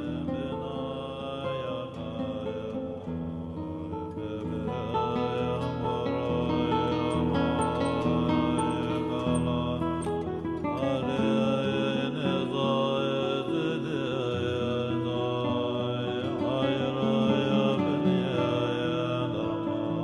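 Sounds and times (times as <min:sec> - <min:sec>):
chant-like voice: 0:00.0 - 0:20.0.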